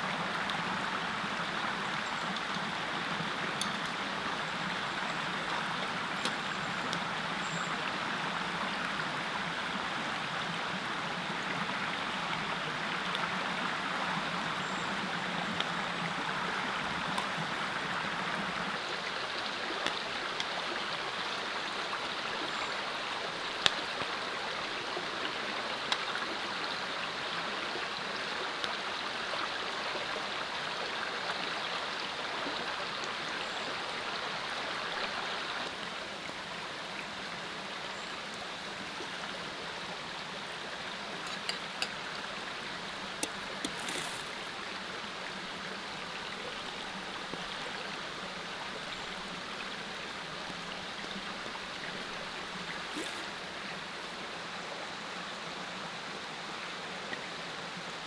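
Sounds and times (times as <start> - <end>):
creek rushing over rocks: 0.0 - 58.0.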